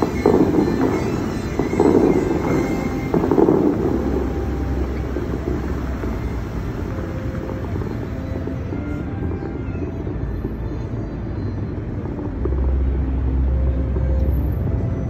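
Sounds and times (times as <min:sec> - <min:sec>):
fountain jets rushing water: 0:00.0 - 0:15.0.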